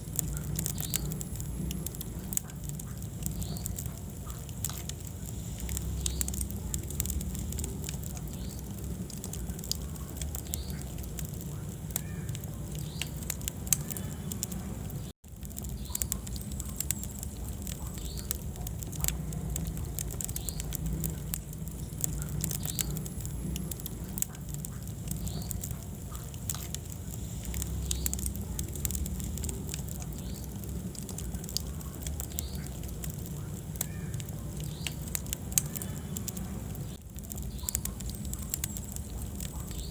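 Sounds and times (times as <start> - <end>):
low flame rumble: 0.0 - 39.9
wood fire crackling and popping: 0.0 - 39.9.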